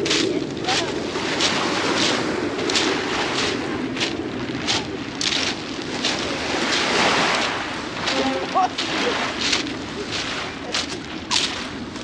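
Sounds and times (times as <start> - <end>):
footsteps crunching on pebbles: 0.0 - 12.0
small waves washing ashore: 0.0 - 12.0
wind noise on microphone: 0.0 - 12.0.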